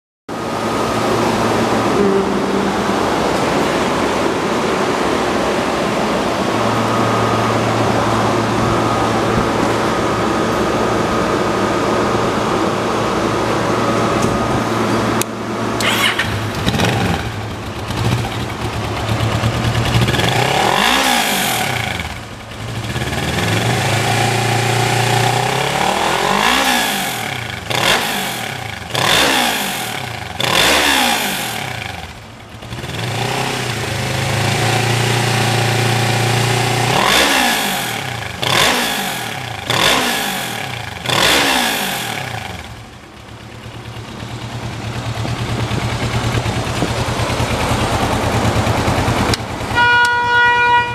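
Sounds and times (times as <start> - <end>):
motorcycle engine idling and revving: 0.3 - 50.9.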